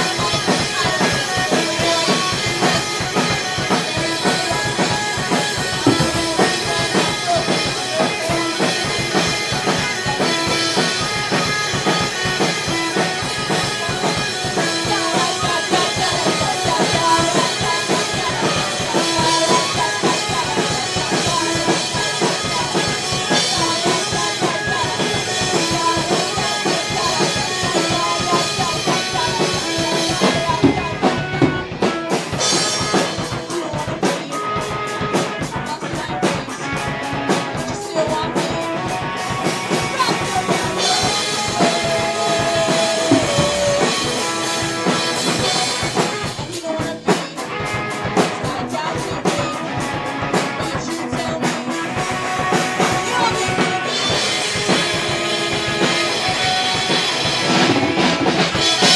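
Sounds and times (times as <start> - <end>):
drum kit beat: 0.0 - 58.9
live rock band playing: 0.0 - 58.9.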